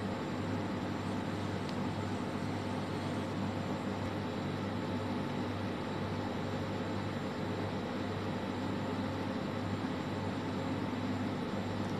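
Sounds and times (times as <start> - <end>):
machine hum with fan noise: 0.0 - 11.9.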